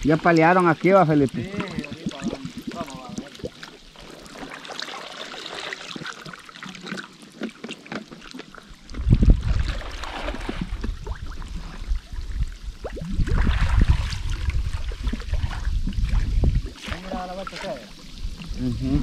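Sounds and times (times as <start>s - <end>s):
river water trickling: 0.0s - 19.0s.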